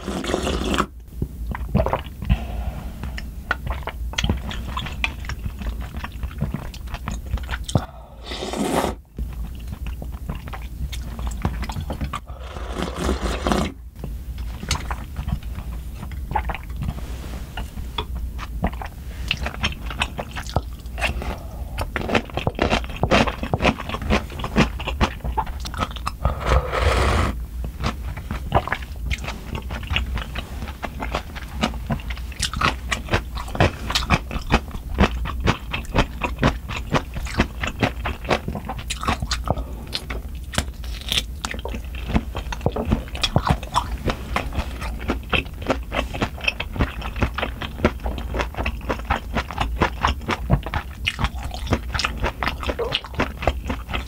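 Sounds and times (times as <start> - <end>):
food chewing with crisp crunches: 3.1 - 8.0, 9.2 - 26.9, 27.6 - 54.0.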